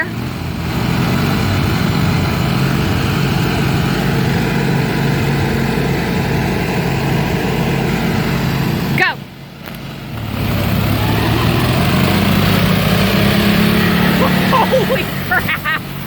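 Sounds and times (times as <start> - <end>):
lawn mower engines running: 0.0 - 16.0.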